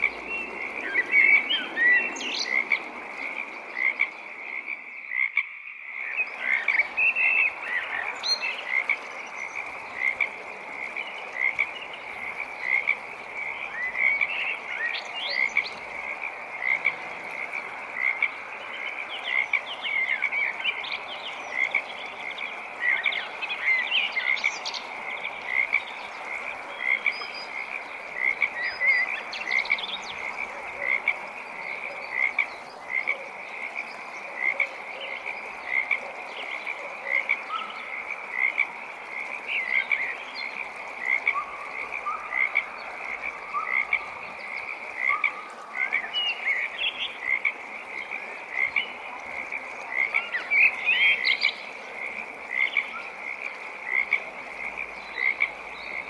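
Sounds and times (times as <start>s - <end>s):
frog call: 0.0s - 56.0s
frog chorus: 0.0s - 56.0s.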